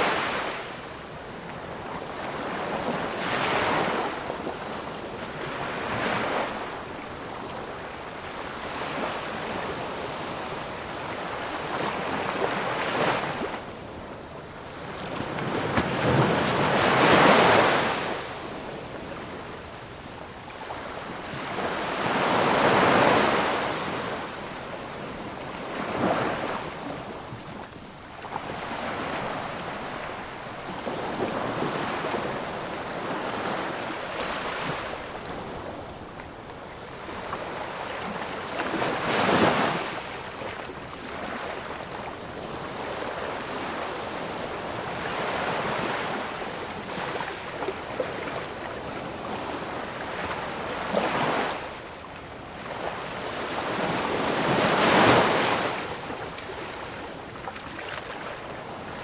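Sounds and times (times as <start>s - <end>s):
ocean waves breaking on shore: 0.0s - 36.2s, 36.8s - 59.0s.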